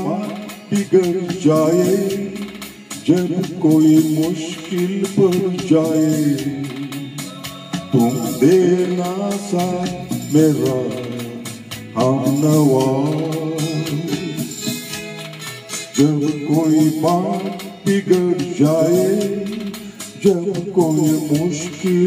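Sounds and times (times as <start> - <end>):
song with singing voice: 0.0 - 22.0.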